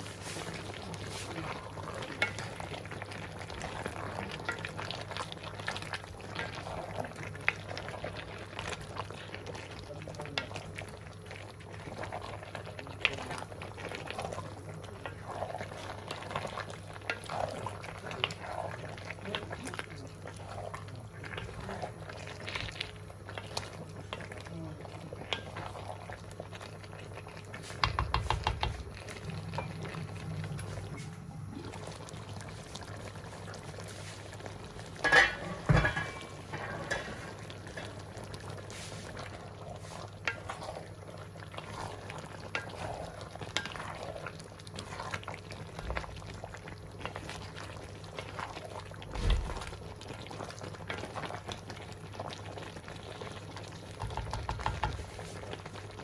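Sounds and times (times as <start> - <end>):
stew bubbling in a pot: 0.0 - 56.0
stirring pot sounds: 0.0 - 56.0.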